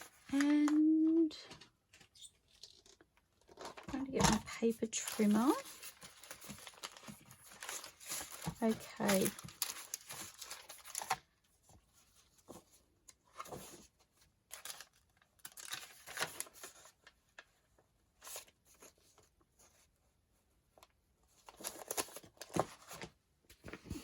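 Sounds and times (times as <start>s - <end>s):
paper rustling: 1.5s - 19.9s, 21.3s - 24.0s.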